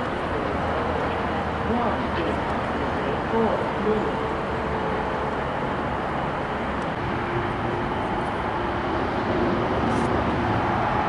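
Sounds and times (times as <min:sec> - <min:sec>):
distant vehicle rumble: 0:00.0 - 0:11.0.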